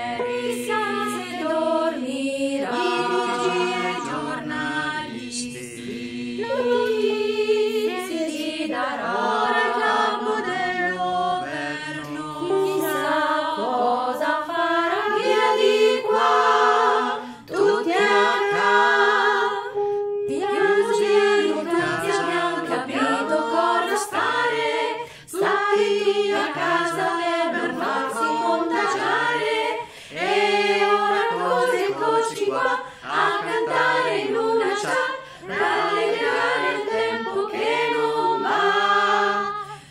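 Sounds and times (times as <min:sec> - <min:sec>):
small choir singing a cappella: 0:00.0 - 0:39.9.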